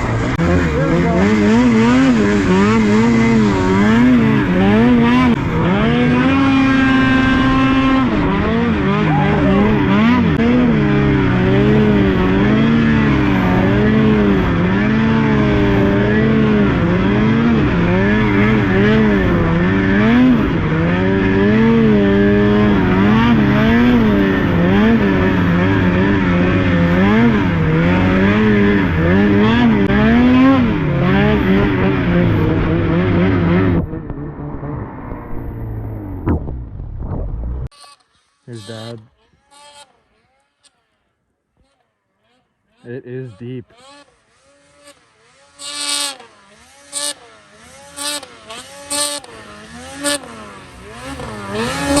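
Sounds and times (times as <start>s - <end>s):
snowmobile engine revving: 0.0s - 36.5s, 37.4s - 52.0s.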